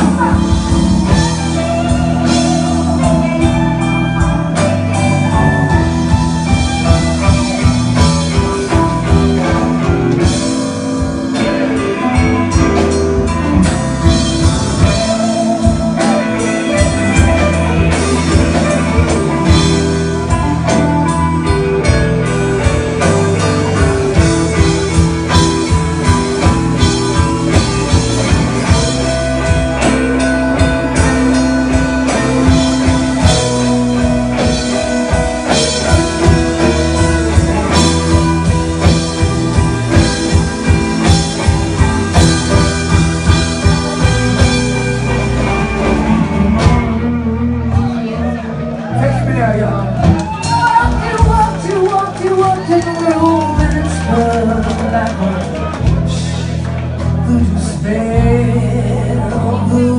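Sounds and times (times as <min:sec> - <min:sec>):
drum kit steady beat: 0:00.0 - 0:48.0, 0:50.0 - 0:58.5
bass: 0:00.0 - 0:59.9
electric guitar lead: 0:00.0 - 0:59.9
keyboards: 0:00.0 - 0:59.9.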